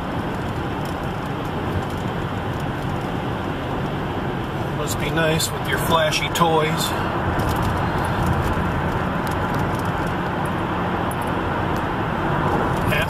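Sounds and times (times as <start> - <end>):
car engine hum: 0.0 - 13.0
tyre noise on road: 0.0 - 13.0.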